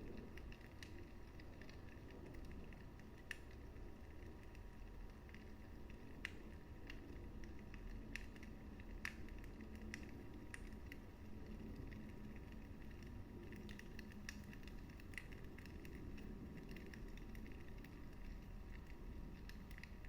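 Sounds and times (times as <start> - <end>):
fire crackling and popping: 0.0 - 20.0
wood fire flames rumbling: 0.0 - 20.0.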